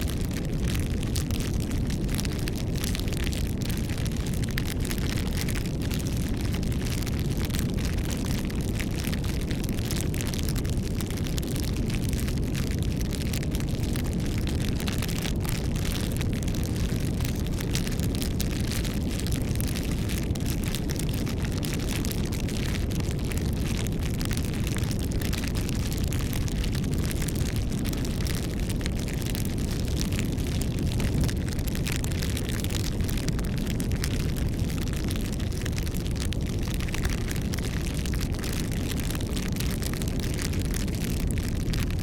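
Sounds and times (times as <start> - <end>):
campfire rumble: 0.0 - 42.0
fire crackling and popping: 0.0 - 42.0.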